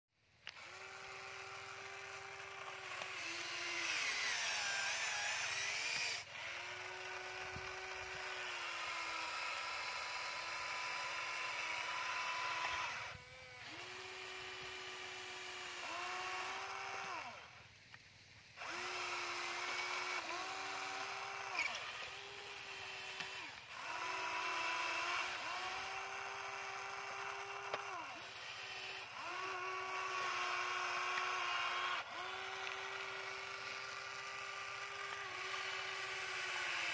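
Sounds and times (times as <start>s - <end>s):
toy excavator motors whining: 0.3s - 36.9s.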